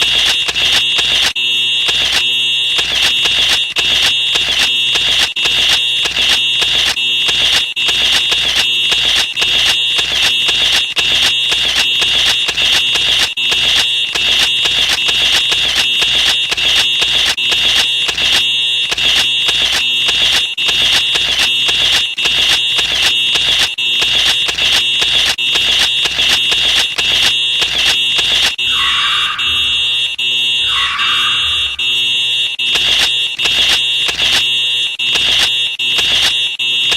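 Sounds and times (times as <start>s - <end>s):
fire alarm pulsing high tone: 0.0s - 36.9s.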